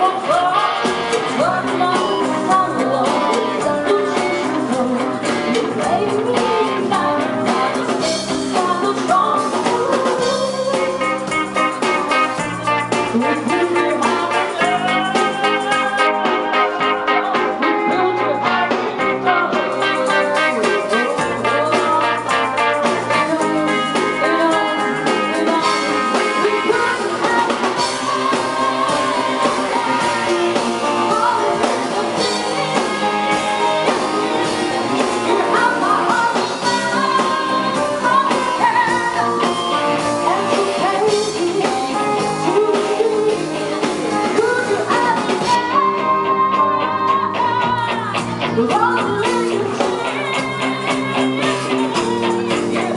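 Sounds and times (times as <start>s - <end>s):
bass guitar: 0.0s - 52.9s
drum kit: 0.0s - 52.9s
electric guitars: 0.0s - 52.9s
woman singing: 0.0s - 52.9s.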